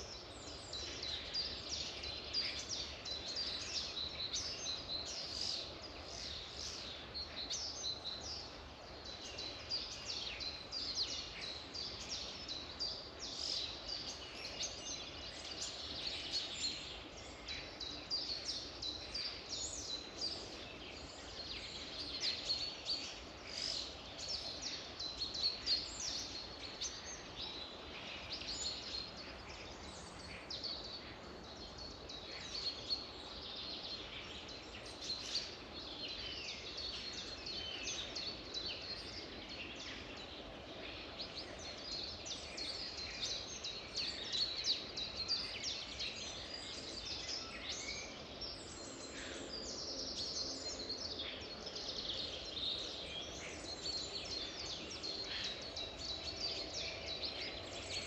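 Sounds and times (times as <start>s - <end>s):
faint outdoor background: 0.0s - 58.0s
songbirds chirping and trilling: 0.0s - 58.0s.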